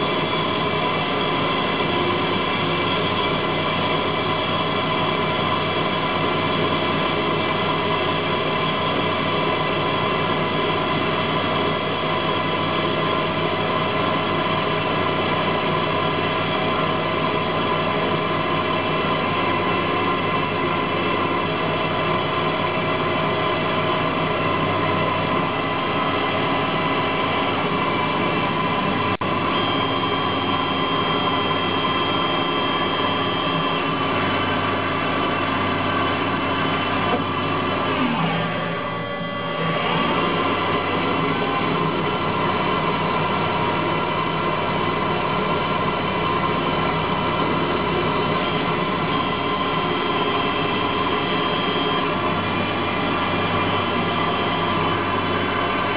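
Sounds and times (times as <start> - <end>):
lathe mechanical whine: 0.0 - 55.9
noisy hum: 0.0 - 55.9.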